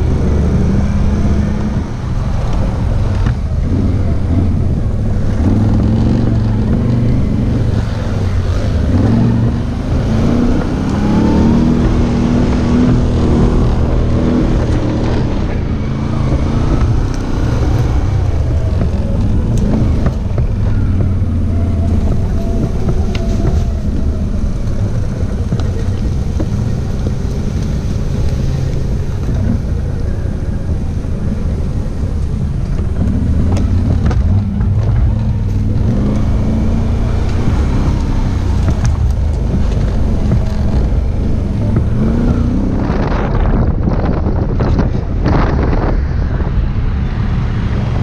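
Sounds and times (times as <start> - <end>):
wind on microphone: 0.0 - 48.0.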